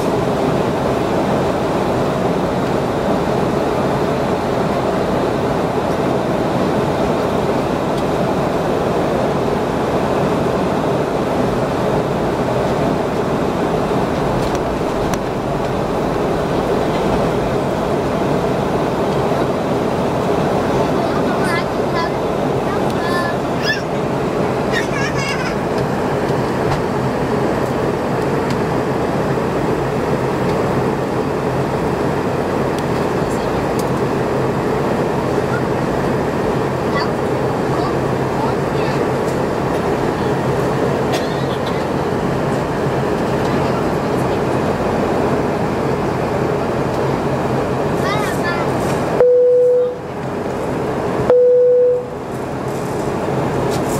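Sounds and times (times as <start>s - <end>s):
airliner cabin engine noise: 0.0s - 53.9s.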